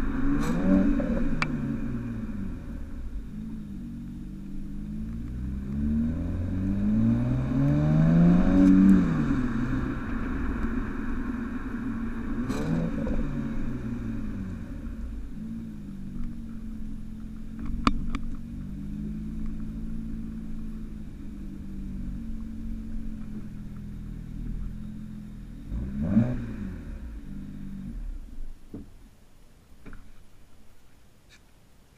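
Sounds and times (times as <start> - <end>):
car engine running at low revs: 0.0 - 31.9.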